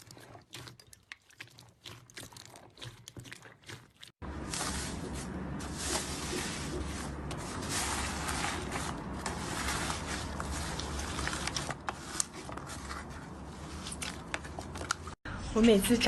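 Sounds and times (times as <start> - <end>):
slime squishing with crackles: 0.0 - 15.2.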